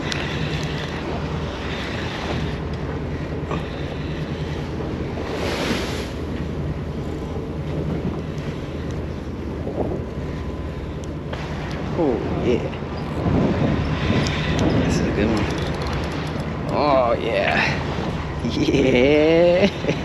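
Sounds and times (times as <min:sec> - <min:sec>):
boat engine drone: 0:00.0 - 0:20.0
sea noise: 0:00.0 - 0:20.0
wind buffeting microphone: 0:00.0 - 0:20.0.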